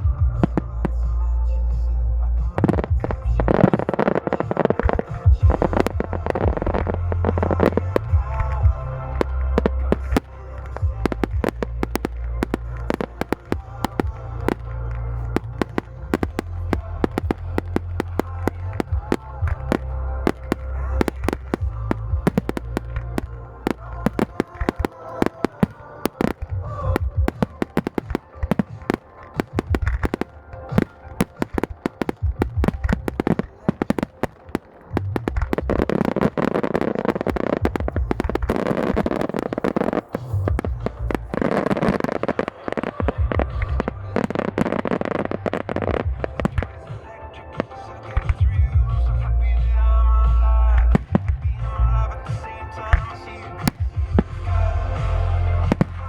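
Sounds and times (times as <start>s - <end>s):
background music with low beat: 0.0s - 56.0s
fireworks bangs: 2.5s - 49.0s, 50.8s - 56.0s.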